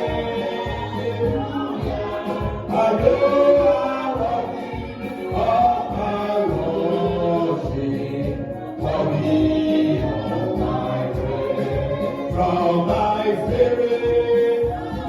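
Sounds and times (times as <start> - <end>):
gospel choir singing: 0.0 - 15.0
instrumental accompaniment with beat: 0.0 - 15.0.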